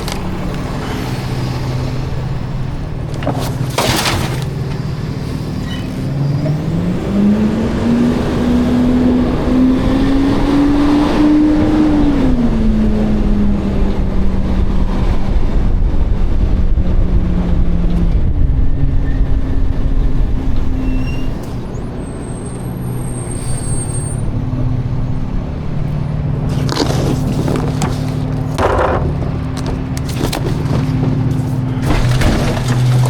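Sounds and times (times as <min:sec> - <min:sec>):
garbage truck diesel engine: 0:00.0 - 0:33.0.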